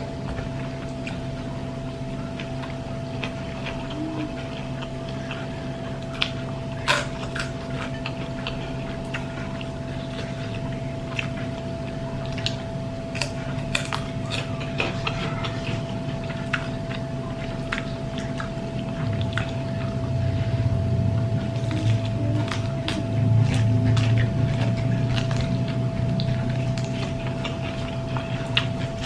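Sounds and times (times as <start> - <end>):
person chewing: 0.0 - 29.0
steady hum: 0.0 - 29.0.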